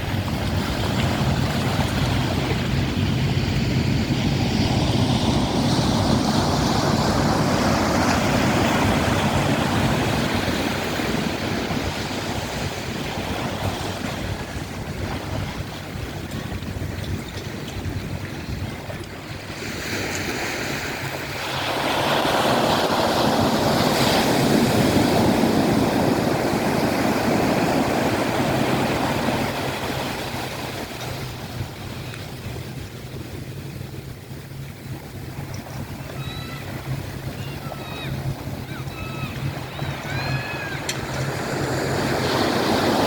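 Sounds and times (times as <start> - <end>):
ocean wave breaking: 0.0 - 16.8, 18.8 - 33.4, 34.5 - 43.0.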